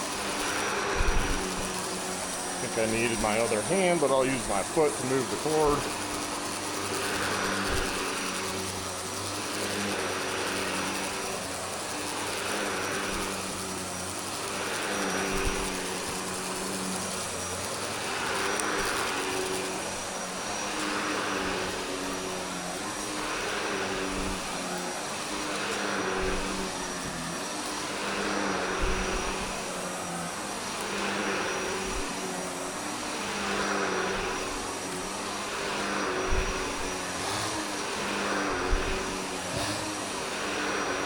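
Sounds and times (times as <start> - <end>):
vacuum cleaner running on carpet: 0.0 - 41.0.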